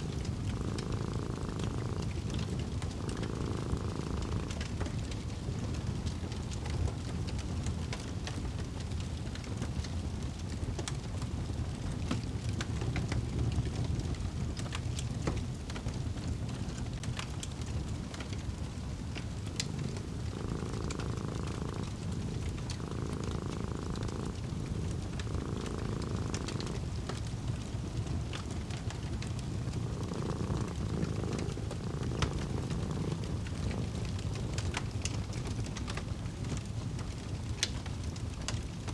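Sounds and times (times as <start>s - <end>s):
cat purring: 0.0s - 38.9s
fire crackling and popping: 0.0s - 38.9s.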